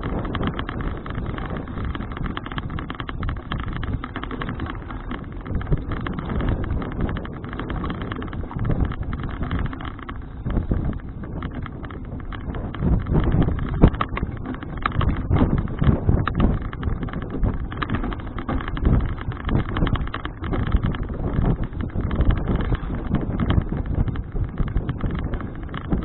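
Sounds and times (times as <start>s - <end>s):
bicycle clicks and rattles: 0.0s - 26.0s
wind rushing over microphone: 0.0s - 26.0s.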